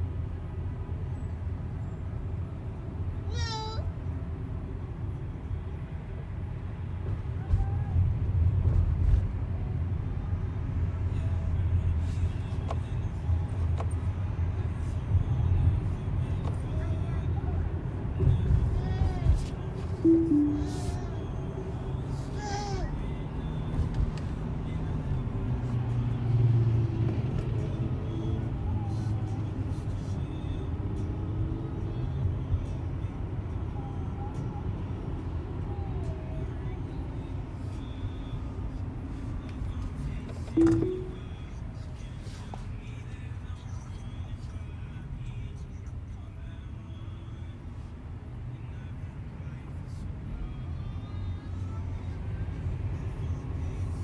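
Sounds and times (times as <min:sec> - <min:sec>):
road and tyre rumble: 0:00.0 - 0:20.1, 0:21.0 - 0:54.0.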